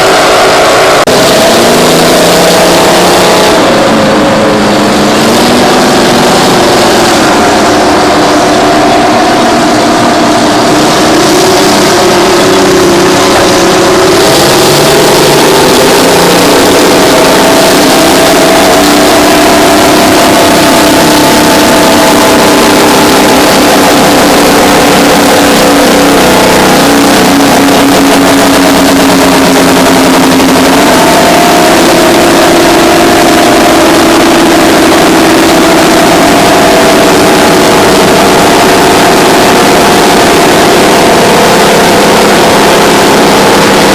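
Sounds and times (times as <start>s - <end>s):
bulldozer diesel engines under load: 0.0s - 43.9s
other heavy diesel engines: 0.0s - 43.9s.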